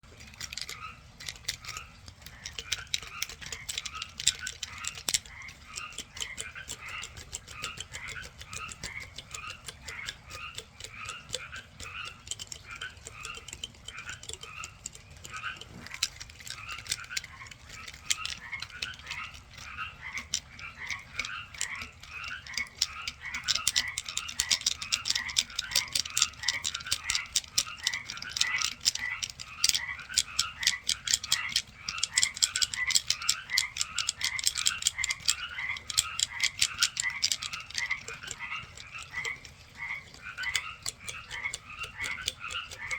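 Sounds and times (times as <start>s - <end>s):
fast clicking frog call: 0.0s - 42.9s
frogs chirping: 0.5s - 42.9s.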